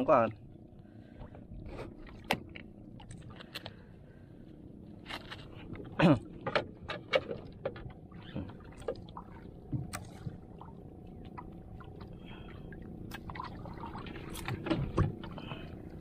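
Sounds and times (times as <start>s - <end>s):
water lapping against boat hull: 0.7s - 16.0s.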